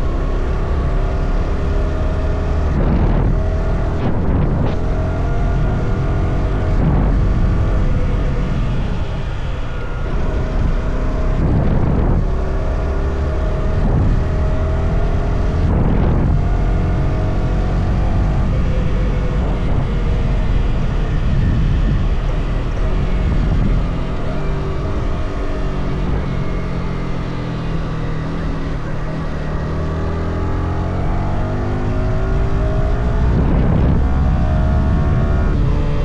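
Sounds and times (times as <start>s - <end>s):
motorcycle engine shifting gears: 0.0s - 36.0s.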